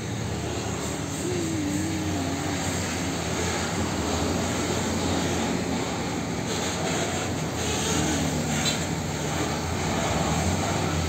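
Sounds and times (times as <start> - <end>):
road traffic noise: 0.0 - 11.0
truck diesel engine driving past: 0.0 - 11.0.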